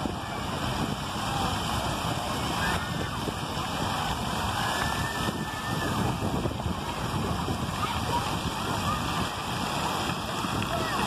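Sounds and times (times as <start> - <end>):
fountain jets splashing on pavement: 0.0 - 11.0
wind rumbling on microphone: 0.0 - 11.0.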